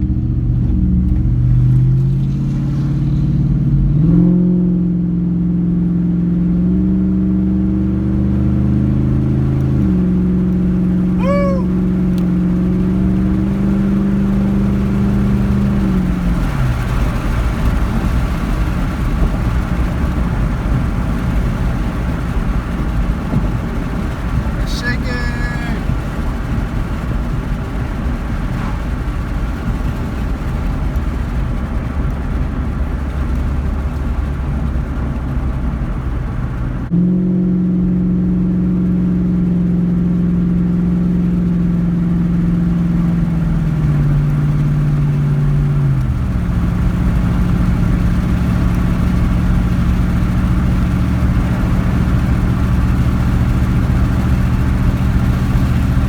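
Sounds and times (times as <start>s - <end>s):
road and tyre noise: 0.0s - 56.0s
car engine running: 6.6s - 56.0s.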